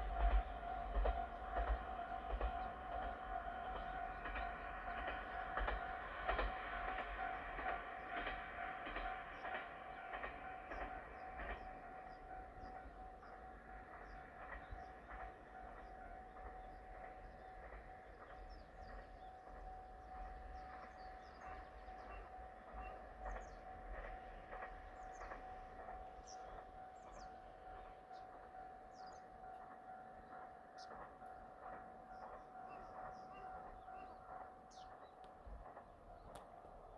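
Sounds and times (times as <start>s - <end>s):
level-crossing warning bell: 0.0s - 35.8s
diesel railcar passing: 0.0s - 36.9s.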